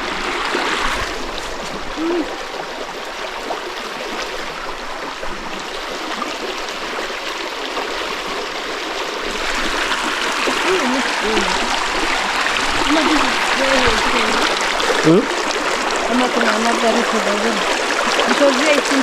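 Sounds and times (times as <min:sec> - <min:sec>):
river water over stones: 0:00.0 - 0:19.0.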